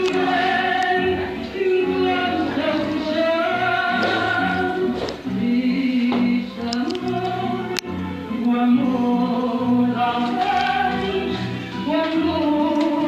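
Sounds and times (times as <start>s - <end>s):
lower voices singing: 0.0s - 13.0s.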